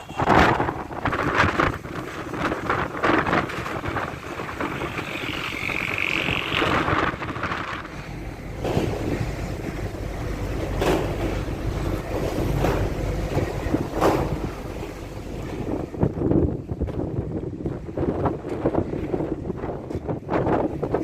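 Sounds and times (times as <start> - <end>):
gusty wind buffeting microphone: 0.0 - 21.0.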